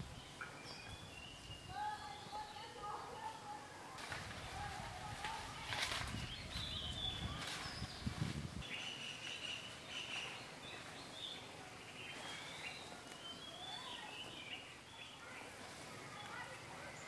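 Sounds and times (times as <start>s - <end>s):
birds chirping and calling: 0.0s - 3.4s, 5.2s - 17.0s.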